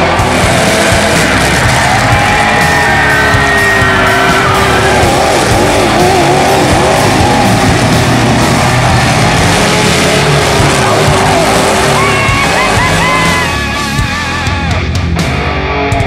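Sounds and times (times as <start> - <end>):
truck engines revving: 0.0 - 15.4
dense noisy din: 0.0 - 16.0
music: 0.0 - 16.0.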